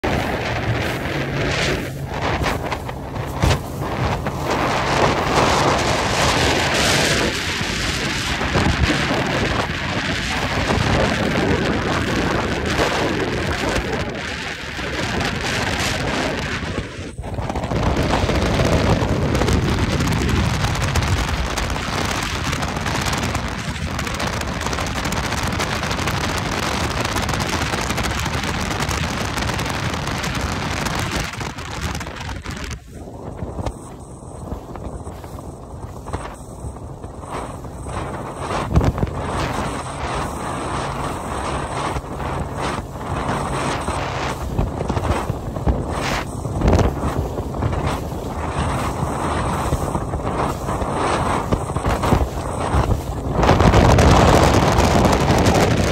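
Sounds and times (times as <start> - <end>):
water spray slapping boat hull: 0.0 - 55.9
wind buffeting microphone: 0.0 - 55.9.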